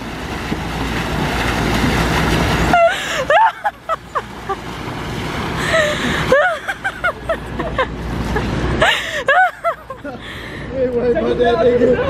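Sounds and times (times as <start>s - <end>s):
pool water splashing: 0.0s - 11.8s.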